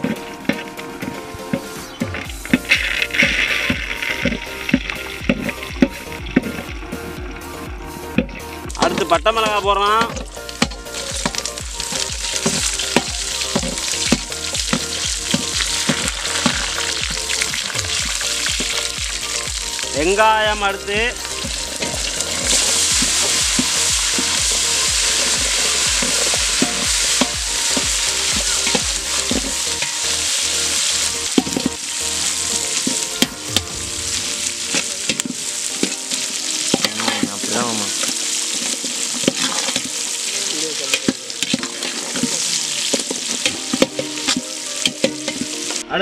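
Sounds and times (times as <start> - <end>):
shallots sizzling in hot oil: 8.1 - 45.8.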